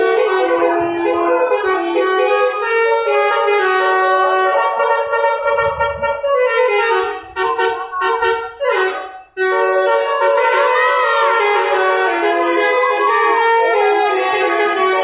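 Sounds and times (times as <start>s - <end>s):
musical air horn playing: 0.0s - 15.0s.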